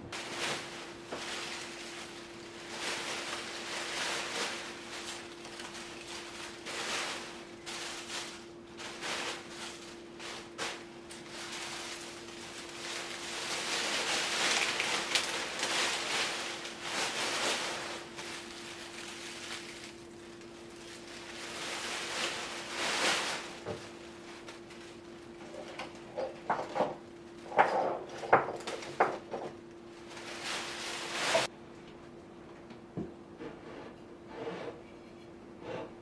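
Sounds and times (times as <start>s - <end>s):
rustling and handling noises: 0.0s - 32.7s
faint steady hum: 0.0s - 36.0s.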